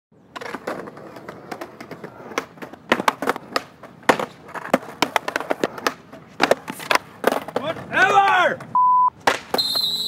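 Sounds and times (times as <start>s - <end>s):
skateboard rolling on concrete: 0.1s - 10.0s
skateboard clacks: 0.2s - 10.0s.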